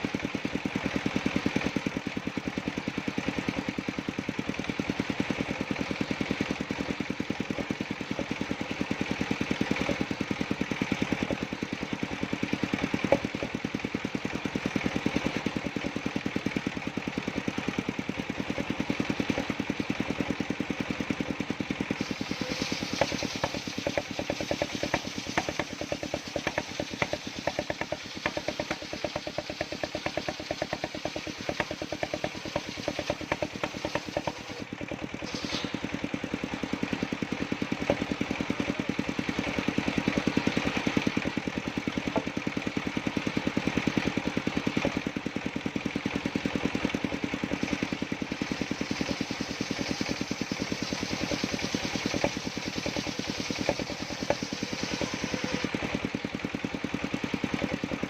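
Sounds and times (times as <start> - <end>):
circular sawmill engine running: 0.0 - 58.0.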